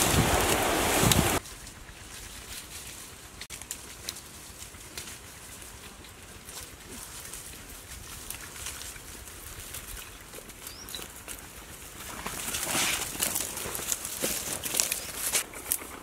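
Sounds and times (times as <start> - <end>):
leaves rustling underfoot: 0.0 - 16.0.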